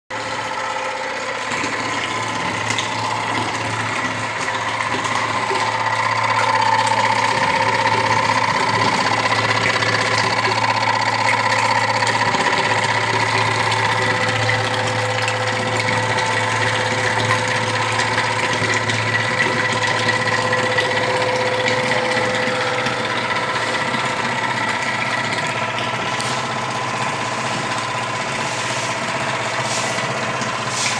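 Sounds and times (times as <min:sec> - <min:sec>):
pump motor humming and whining: 0:00.1 - 0:30.9.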